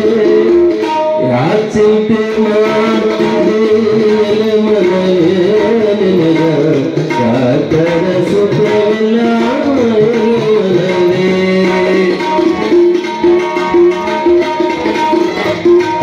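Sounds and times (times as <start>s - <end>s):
harmonium drone: 0.0s - 16.0s
tabla playing: 0.0s - 16.0s.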